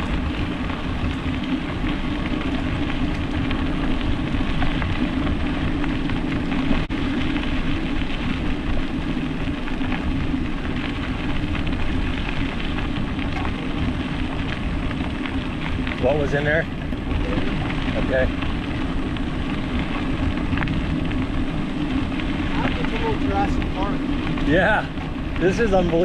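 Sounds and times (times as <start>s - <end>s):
bicycle tyres rolling on trail: 0.0s - 26.0s
wind on microphone: 0.0s - 26.0s.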